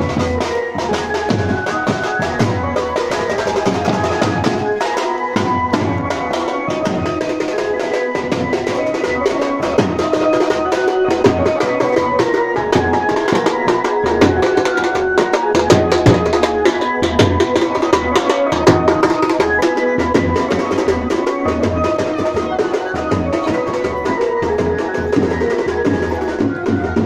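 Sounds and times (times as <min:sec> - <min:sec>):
drums beaten in fast rhythm: 0:00.0 - 0:27.0.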